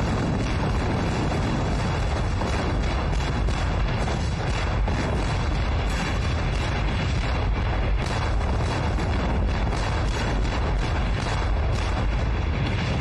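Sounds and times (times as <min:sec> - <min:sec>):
field guns firing: 0:00.0 - 0:13.0.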